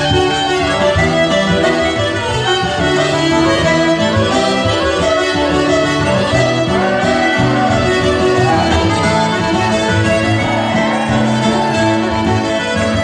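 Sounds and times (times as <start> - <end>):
button accordion: 0.0 - 13.0
fiddle: 0.0 - 13.0
strummed guitar chords: 0.0 - 13.0.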